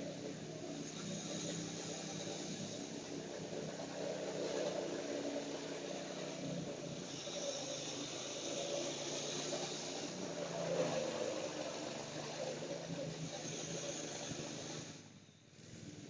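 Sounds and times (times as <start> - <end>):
go-kart engine running: 0.0 - 15.0.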